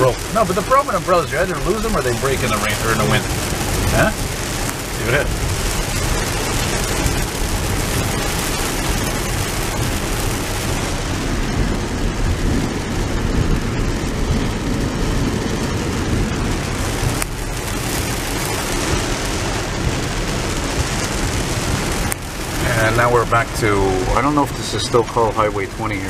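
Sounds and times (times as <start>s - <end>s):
heavy rain drumming on car: 0.0s - 26.0s
tyres hissing on wet road: 0.0s - 26.0s.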